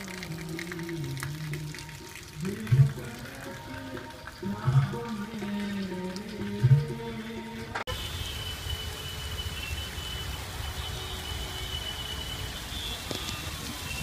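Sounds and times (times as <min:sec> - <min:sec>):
steady rain falling: 0:00.0 - 0:07.2, 0:07.9 - 0:14.0.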